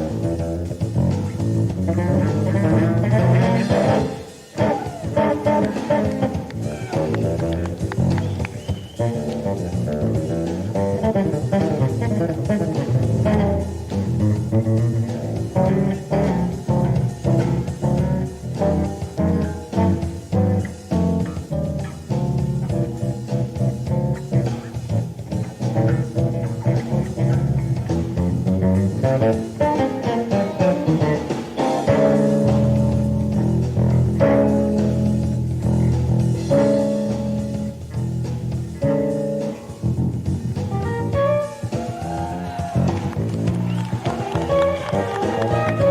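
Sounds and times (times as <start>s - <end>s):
electric bass plucked notes: 0.0s - 45.9s.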